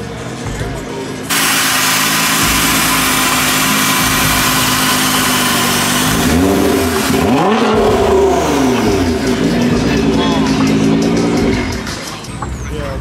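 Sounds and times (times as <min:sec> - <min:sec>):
car engine revving: 0:01.3 - 0:12.3.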